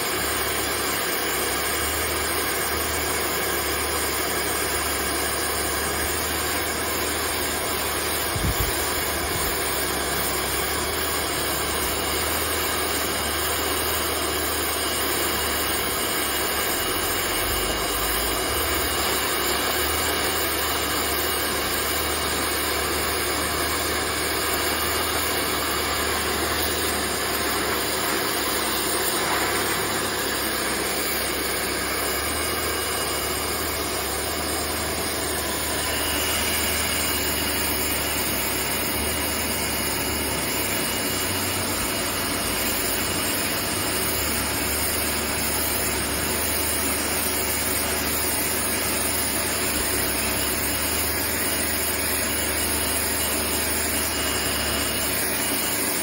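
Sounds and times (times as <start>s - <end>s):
pressure washer spraying water: 4.4s - 56.0s.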